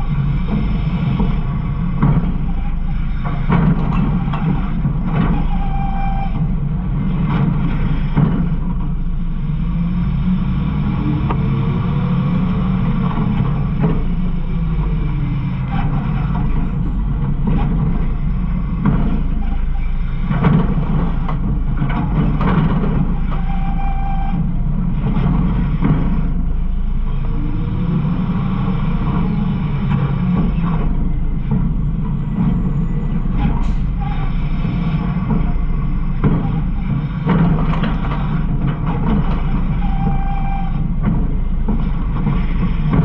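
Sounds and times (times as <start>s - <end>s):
knocks and clatters: 0.0s - 9.2s, 12.9s - 27.3s, 28.5s - 43.0s
garbage truck engine and hydraulics: 0.0s - 43.0s.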